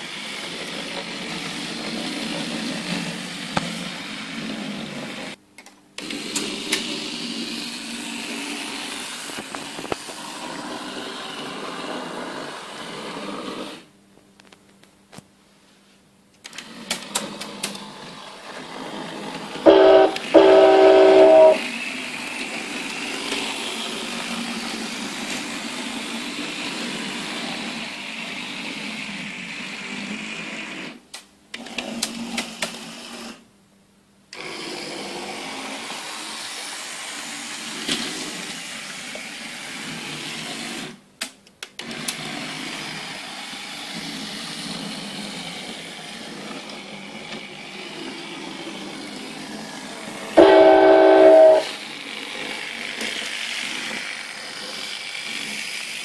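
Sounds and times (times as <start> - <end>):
model trains whirring on track: 0.0 - 5.4, 6.0 - 13.9, 16.4 - 33.4, 34.3 - 41.0, 41.6 - 56.0.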